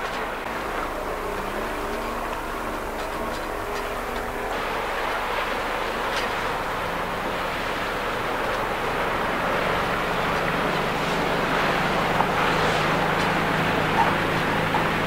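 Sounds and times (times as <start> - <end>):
boat engine drone: 0.0 - 15.0
bow wave and wake rushing: 0.0 - 15.0
wind: 0.0 - 15.0.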